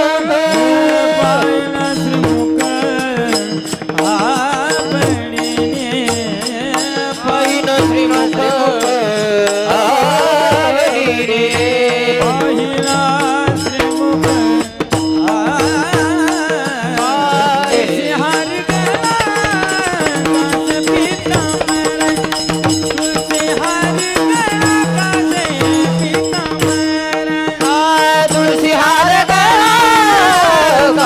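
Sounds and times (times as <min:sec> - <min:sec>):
sharp percussion strikes: 0:00.0 - 0:31.0
tabla drumming: 0:00.0 - 0:31.0.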